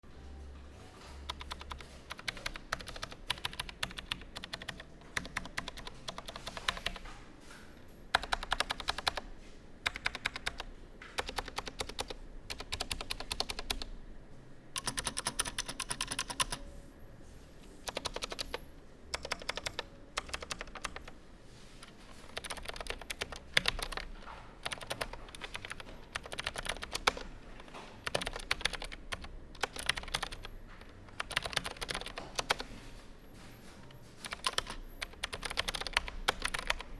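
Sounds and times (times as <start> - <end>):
mechanical keyboard typing: 1.3 - 7.0, 8.1 - 13.9, 14.8 - 16.7, 17.8 - 21.2, 22.2 - 32.7, 34.2 - 36.9.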